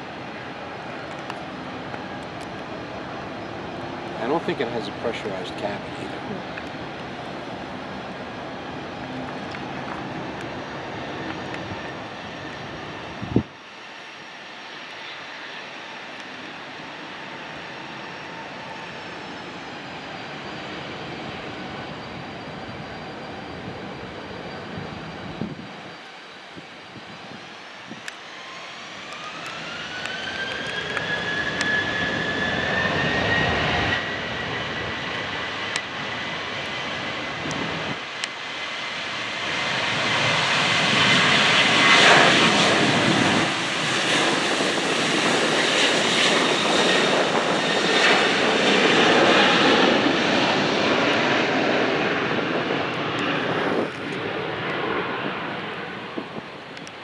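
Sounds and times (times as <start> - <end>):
airplane engine roar: 0.0 - 57.0
airplane engine whine: 0.0 - 57.0.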